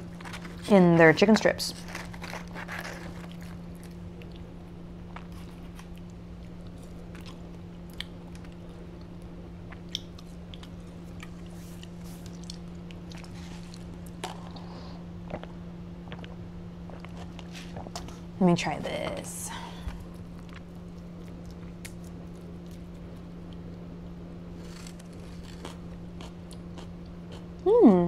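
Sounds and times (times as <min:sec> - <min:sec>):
steady low hum: 0:00.0 - 0:28.0
person chewing crunchy food: 0:01.8 - 0:18.3, 0:19.9 - 0:23.7, 0:24.6 - 0:27.6.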